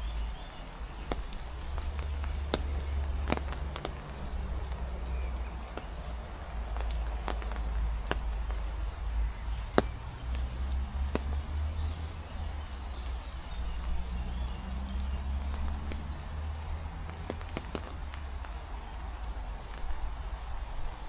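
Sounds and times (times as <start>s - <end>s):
heavy rain: 0.0s - 21.0s
wind rumbling on microphone: 0.0s - 21.0s.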